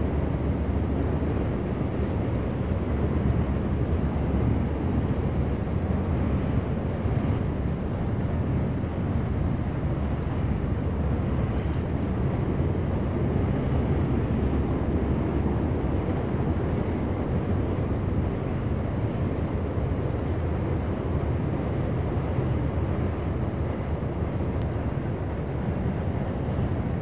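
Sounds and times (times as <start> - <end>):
diesel locomotives rumbling: 0.0 - 27.0.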